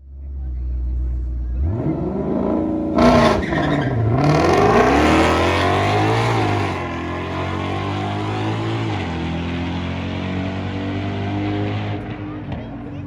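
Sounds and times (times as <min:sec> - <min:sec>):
drag race car accelerating: 0:00.8 - 0:13.0.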